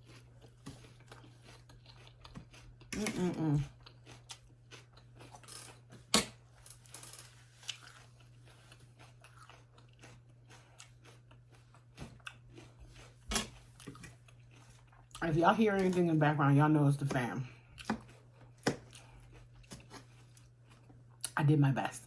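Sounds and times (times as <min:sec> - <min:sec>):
chewing crunchy salad: 0:00.0 - 0:06.1, 0:06.8 - 0:16.3, 0:17.0 - 0:21.4.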